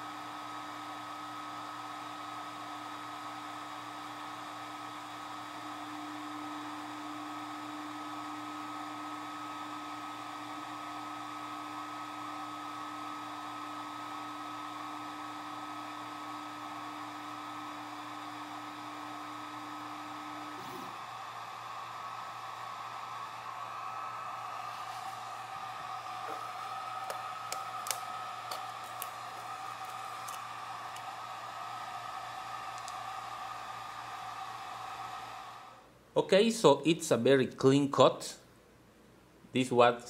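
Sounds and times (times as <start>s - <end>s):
laser engraver fans whirring: 0.0s - 37.1s.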